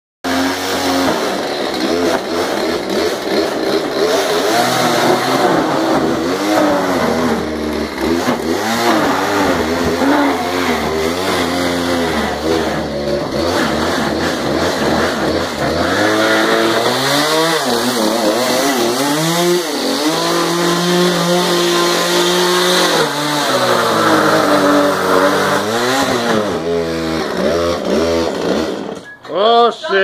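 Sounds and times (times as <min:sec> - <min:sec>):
chainsaw cutting: 0:00.2 - 0:29.2.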